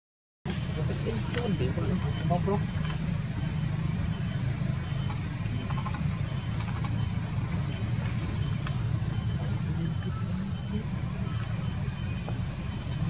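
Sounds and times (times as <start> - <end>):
high-pitched insect drone: 0.5 - 13.0
low steady rumble: 0.5 - 13.0.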